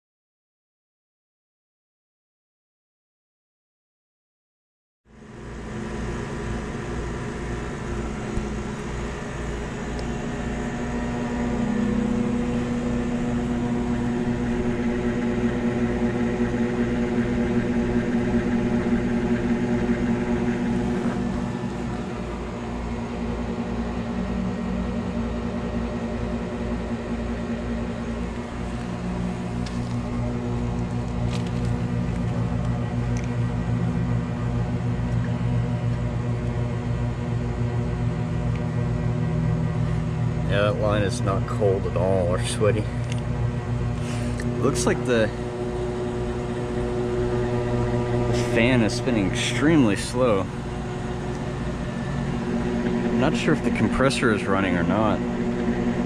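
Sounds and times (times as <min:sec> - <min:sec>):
air conditioner unit humming: 0:05.1 - 0:56.0.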